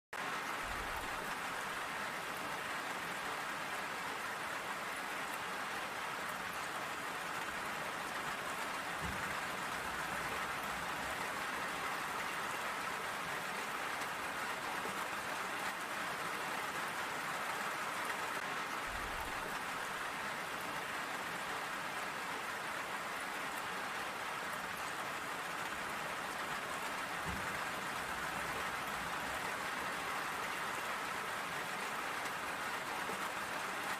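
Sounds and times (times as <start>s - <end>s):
steady rainfall: 0.2s - 33.9s.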